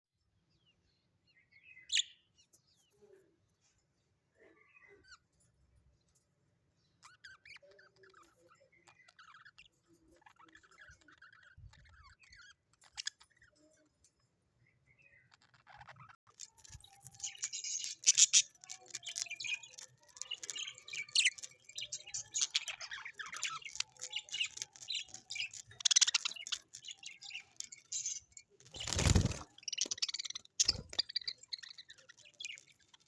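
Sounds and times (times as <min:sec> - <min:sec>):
parrots chirping and chattering: 0:04.4 - 0:33.0.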